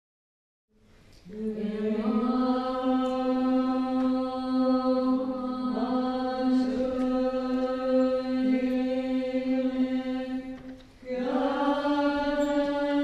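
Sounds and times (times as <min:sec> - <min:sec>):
women chanting in unison: 0:01.3 - 0:13.0.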